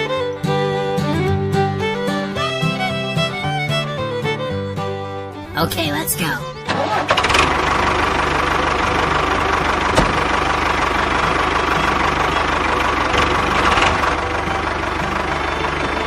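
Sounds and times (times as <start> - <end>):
small engine running: 0.0 - 5.4, 6.5 - 16.0.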